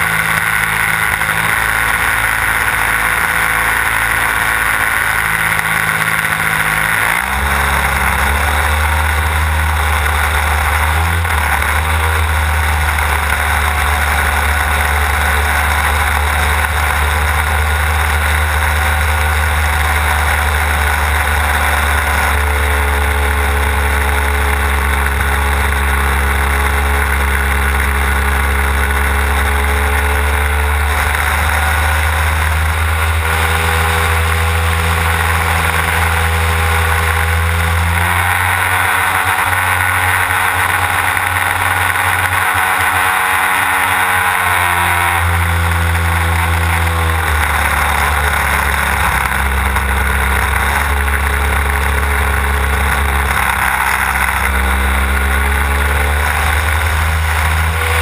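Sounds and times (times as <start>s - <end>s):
model plane engine running: 0.0s - 58.0s.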